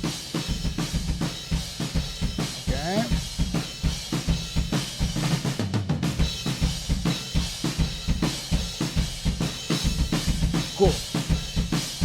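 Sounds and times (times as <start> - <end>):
drum kit fast beat: 0.0 - 12.0.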